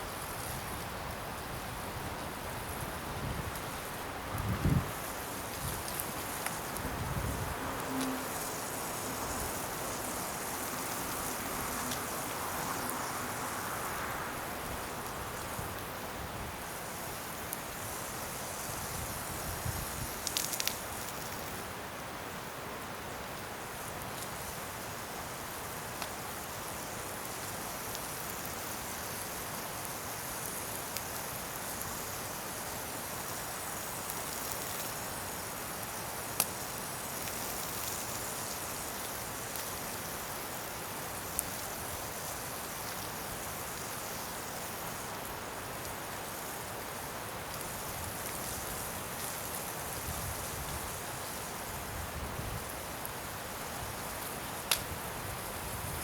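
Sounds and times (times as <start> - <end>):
bonfire hissing: 0.0 - 56.0
fire popping: 0.1 - 21.7, 23.4 - 56.0.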